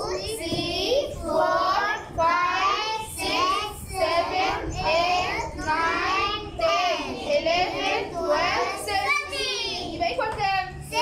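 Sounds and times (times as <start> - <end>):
children chanting in sing-song: 0.0 - 11.0.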